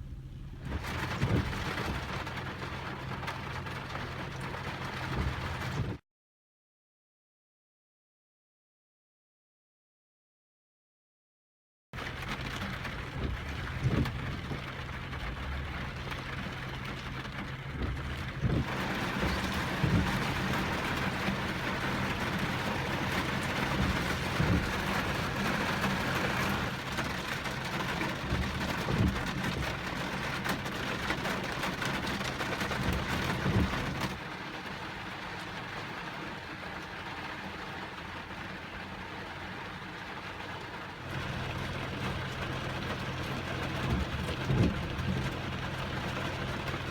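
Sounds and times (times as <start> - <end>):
car engine humming: 0.0 - 5.7, 12.1 - 46.9
heavy rain on vehicle: 0.0 - 6.0, 12.0 - 46.9
loud raindrop hits: 0.0 - 6.0, 12.0 - 38.0, 41.1 - 46.9.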